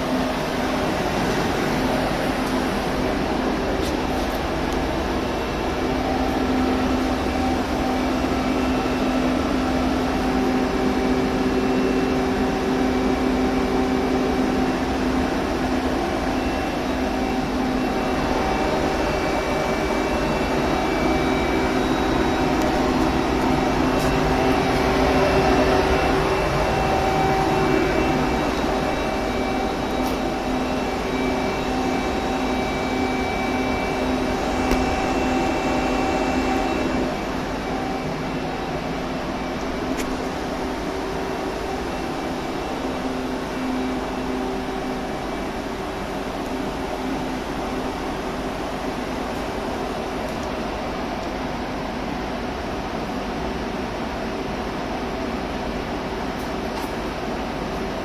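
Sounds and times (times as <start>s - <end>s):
lathe humming and whirring: 0.0s - 58.0s.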